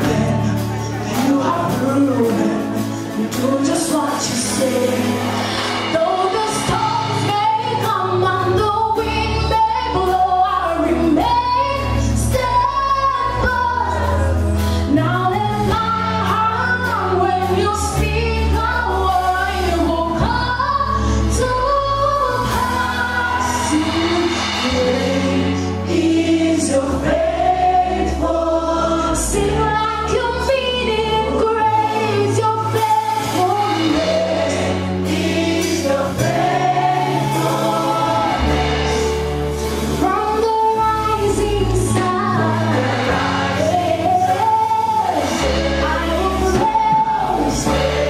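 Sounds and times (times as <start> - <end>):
choir singing gospel song: 0.0 - 48.0
instrumental backing with bass: 0.0 - 48.0.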